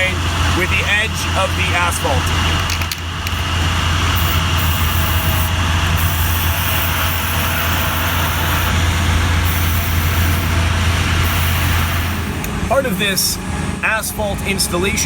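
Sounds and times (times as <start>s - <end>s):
large engine running: 0.0s - 15.0s.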